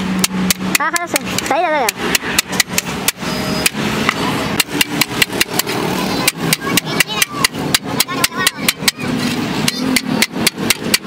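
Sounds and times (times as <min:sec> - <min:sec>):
hammer striking sheet metal: 0:00.0 - 0:11.0.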